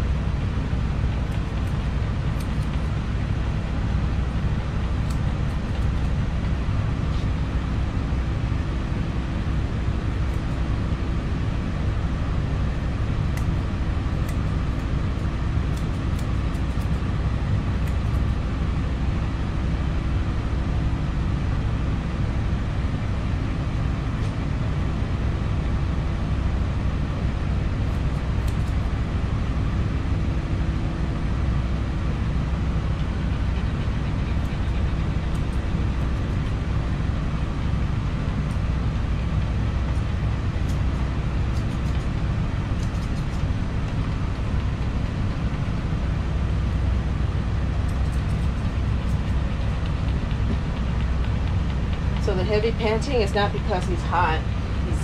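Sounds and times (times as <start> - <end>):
machinery hum and rumble: 0.0 - 55.0.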